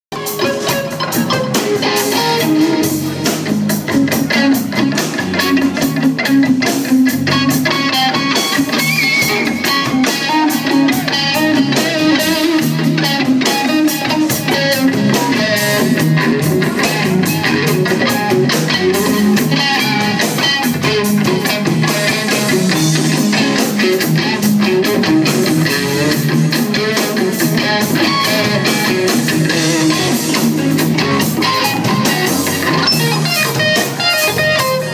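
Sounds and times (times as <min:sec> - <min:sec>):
live rock band playing: 0:00.1 - 0:34.9.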